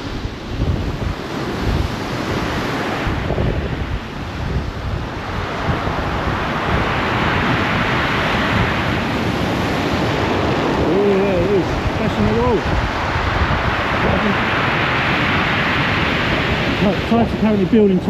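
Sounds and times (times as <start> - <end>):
sea surf breaking on shore: 0.0 - 18.0
wind buffeting microphone: 0.0 - 18.0.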